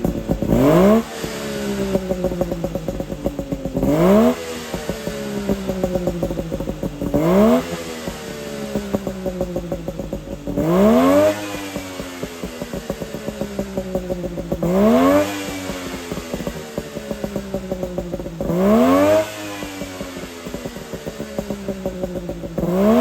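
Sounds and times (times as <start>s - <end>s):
exhaust popping: 0.0s - 23.0s
two-stroke engine revving: 0.0s - 23.0s.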